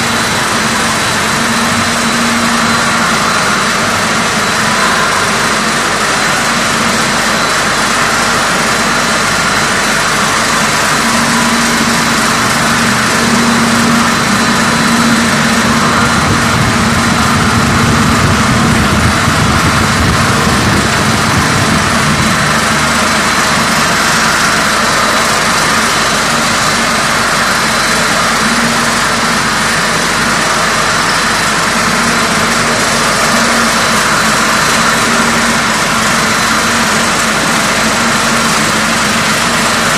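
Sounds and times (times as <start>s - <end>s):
production line machinery drone: 0.0s - 39.9s.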